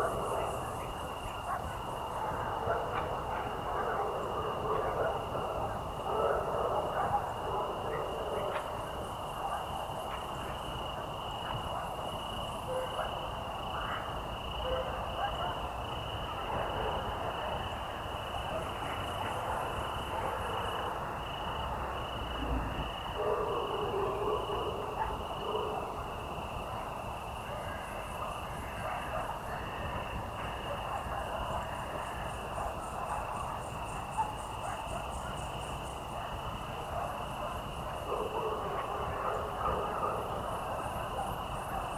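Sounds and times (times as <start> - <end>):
crickets trilling: 0.0 - 41.9
frogs croaking: 0.0 - 41.9.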